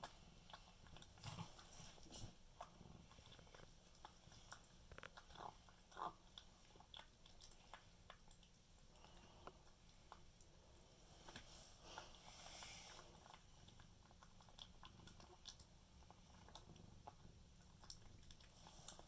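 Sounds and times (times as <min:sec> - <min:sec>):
kitten chewing: 0:00.0 - 0:19.0.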